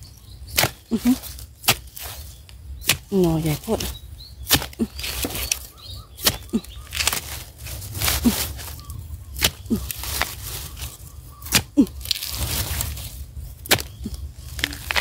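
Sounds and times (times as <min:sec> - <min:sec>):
digging blade chopping into soil: 0:00.5 - 0:08.6, 0:09.3 - 0:10.4, 0:11.4 - 0:15.0.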